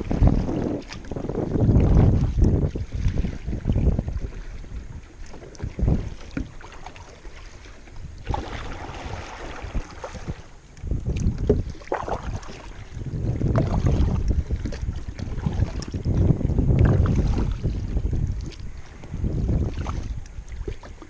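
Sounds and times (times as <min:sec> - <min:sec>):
paddle strokes through water: 0:00.0 - 0:21.0
wind buffeting microphone: 0:00.0 - 0:21.0.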